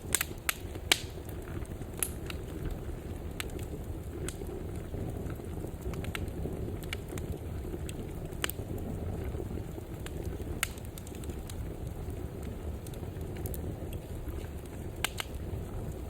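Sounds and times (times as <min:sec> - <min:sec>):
burning wood crackling and popping: 0:00.0 - 0:16.0
fire burning with low roar: 0:00.0 - 0:16.0.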